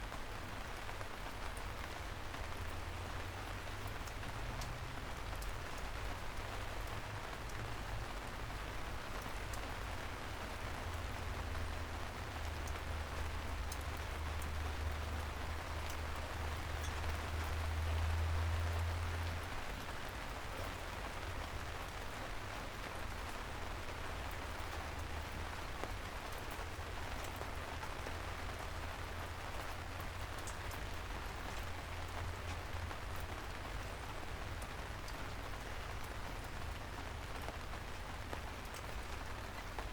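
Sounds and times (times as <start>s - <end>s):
rain on streets: 0.0s - 39.9s.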